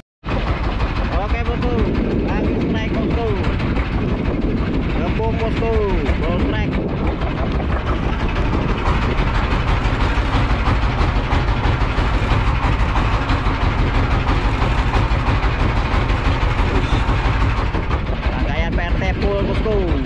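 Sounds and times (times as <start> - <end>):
boat engine rumbling: 0.2 - 20.0.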